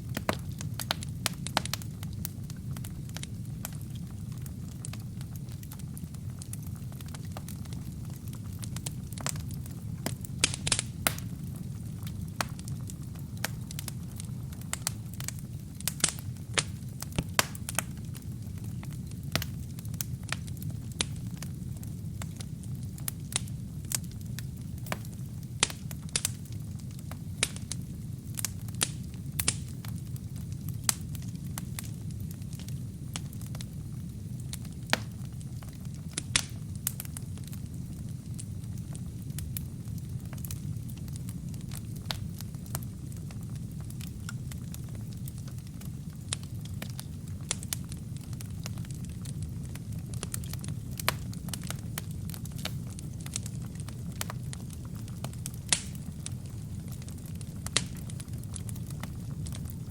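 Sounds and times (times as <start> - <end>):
burning logs crackling and popping: 0.0 - 59.9
flames rumbling: 0.0 - 59.9.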